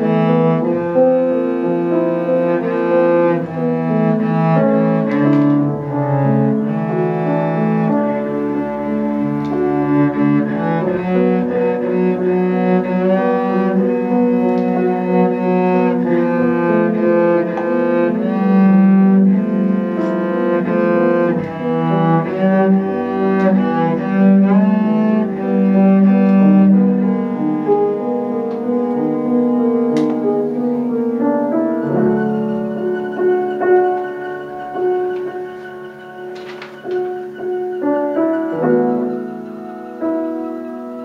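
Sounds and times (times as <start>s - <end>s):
cello melody: 0.0s - 41.0s
piano accompaniment: 0.0s - 41.0s.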